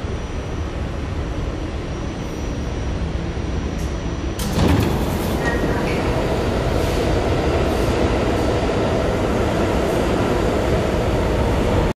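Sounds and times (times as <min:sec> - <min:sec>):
subway train running: 0:00.0 - 0:12.0.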